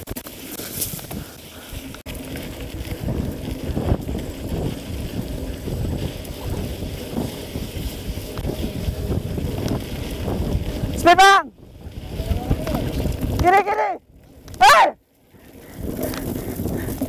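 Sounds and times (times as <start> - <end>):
bike tyres rattling over dirt: 0.0 - 17.0
wind buffeting microphone: 0.9 - 14.6, 15.2 - 17.0.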